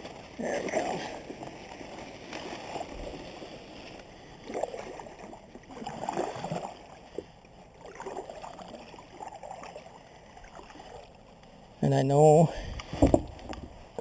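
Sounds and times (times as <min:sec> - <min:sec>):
kayak paddle swishing water: 0:00.0 - 0:14.0.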